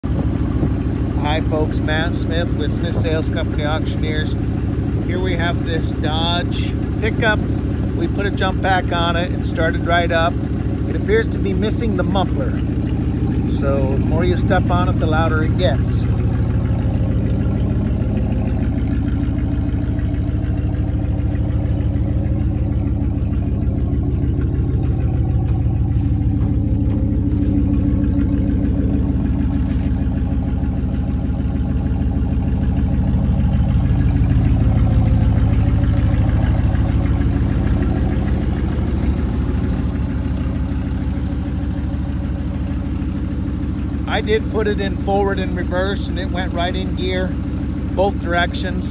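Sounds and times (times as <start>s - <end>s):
pickup engine idling: 0.0s - 48.9s.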